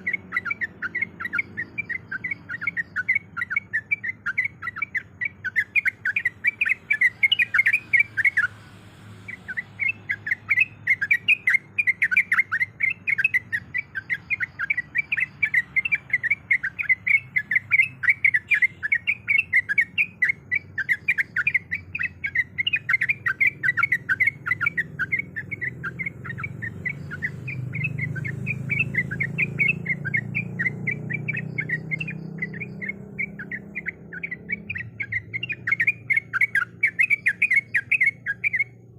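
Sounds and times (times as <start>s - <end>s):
bird chattering: 0.0s - 38.9s.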